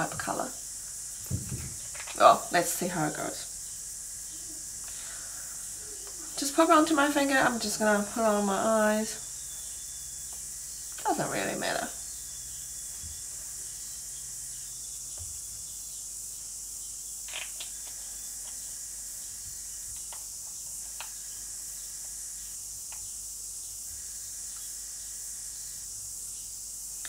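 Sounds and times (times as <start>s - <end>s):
high-pitched recording hiss: 0.0s - 27.0s.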